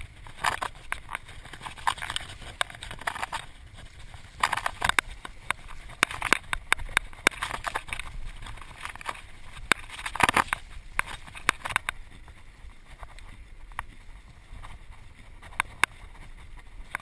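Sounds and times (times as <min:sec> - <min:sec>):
bike chain and frame rattling: 0:00.0 - 0:17.0
wind on microphone: 0:00.0 - 0:17.0.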